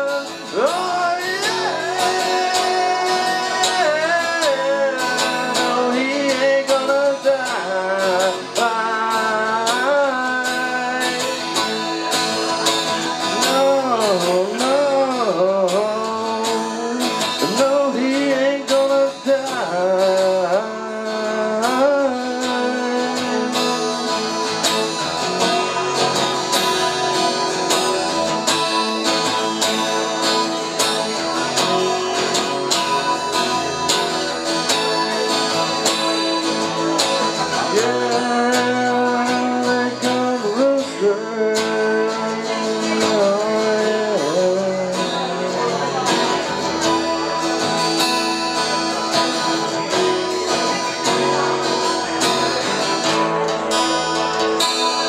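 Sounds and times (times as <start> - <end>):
acoustic guitar strumming: 0.0 - 55.0
man singing: 0.0 - 55.0.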